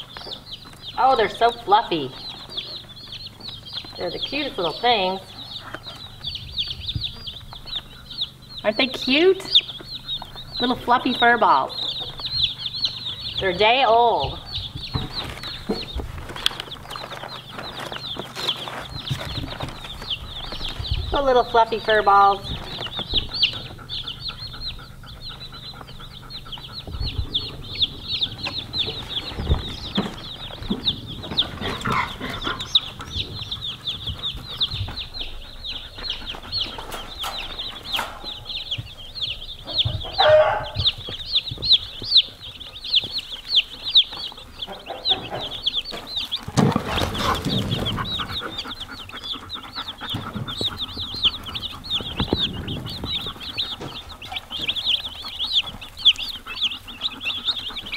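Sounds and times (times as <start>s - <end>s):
chicks peeping: 0.0s - 57.9s.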